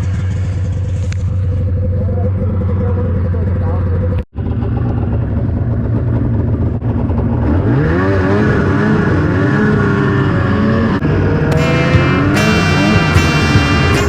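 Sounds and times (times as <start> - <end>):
snowmobile engine revving: 1.8 - 14.0.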